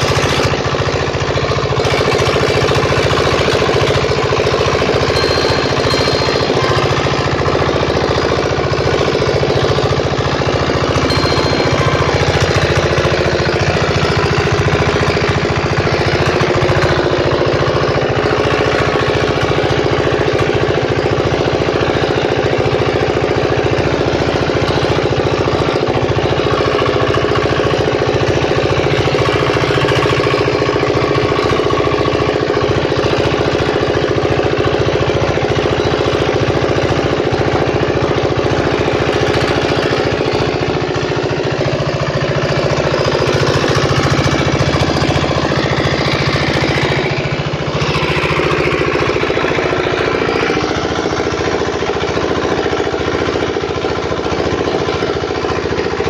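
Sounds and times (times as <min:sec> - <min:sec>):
diesel generator running: 0:00.0 - 0:56.0.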